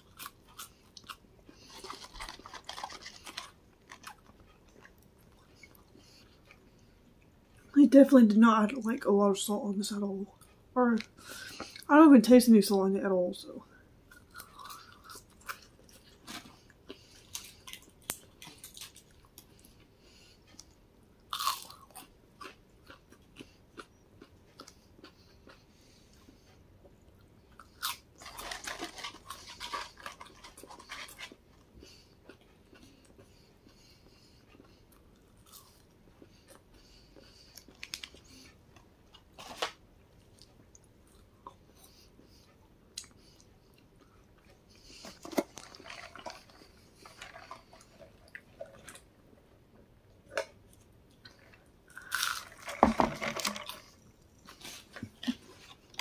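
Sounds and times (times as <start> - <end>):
chewing french fries: 0.0 - 7.8, 14.0 - 56.0.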